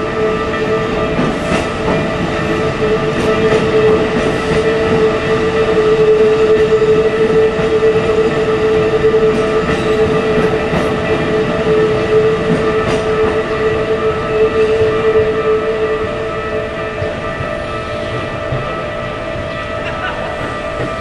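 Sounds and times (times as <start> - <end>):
crossing warning bell: 0.0 - 21.0
train wheels clattering on rails: 0.0 - 21.0.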